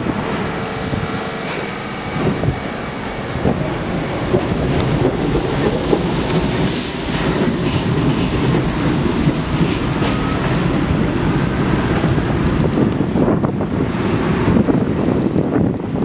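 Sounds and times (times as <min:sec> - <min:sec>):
train wheels rumbling and rattling: 0:00.0 - 0:16.0.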